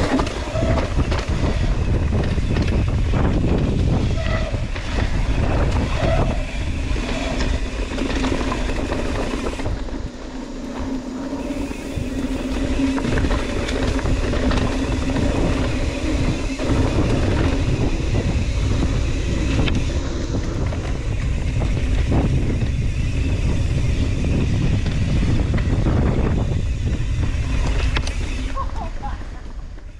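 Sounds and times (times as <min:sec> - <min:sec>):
wind rushing over microphone: 0:00.0 - 0:28.6
bike rattling: 0:00.0 - 0:29.9.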